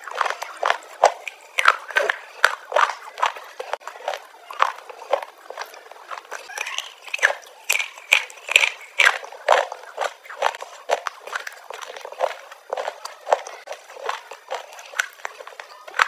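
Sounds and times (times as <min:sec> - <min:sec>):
wet chewing and lip smacking: 0:00.0 - 0:16.0.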